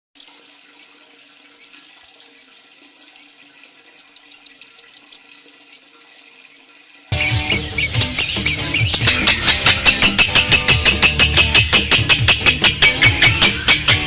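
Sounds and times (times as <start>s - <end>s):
bird chirping: 0.2s - 1.0s, 1.6s - 5.9s, 6.5s - 14.0s.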